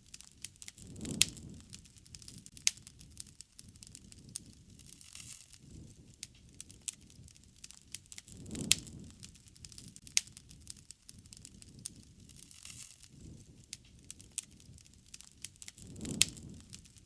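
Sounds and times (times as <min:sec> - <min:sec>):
campfire crackling and popping: 0:00.0 - 0:17.0
low rush of flame: 0:00.0 - 0:17.0.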